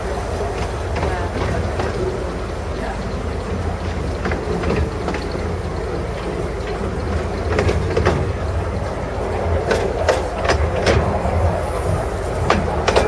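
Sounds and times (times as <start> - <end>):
train wheels rumbling: 0.0 - 13.0
wheels clicking over rail joints: 0.0 - 13.0.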